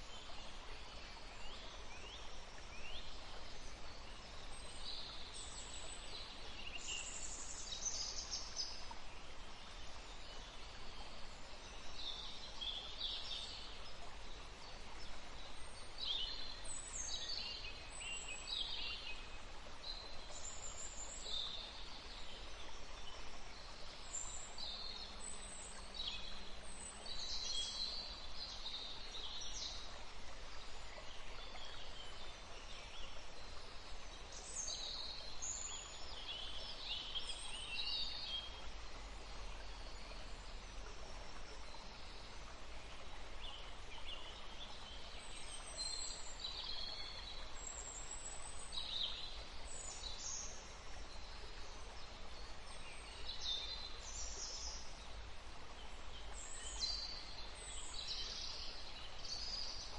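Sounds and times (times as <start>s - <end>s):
songbirds chirping: 0.0s - 59.9s
stream rushing water: 0.0s - 59.9s.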